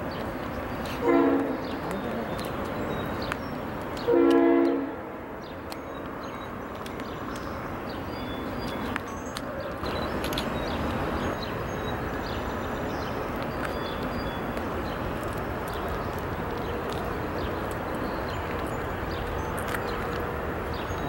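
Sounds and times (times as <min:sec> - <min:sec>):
birds chirping: 0:00.0 - 0:21.0
freight train rumbling: 0:00.0 - 0:21.0.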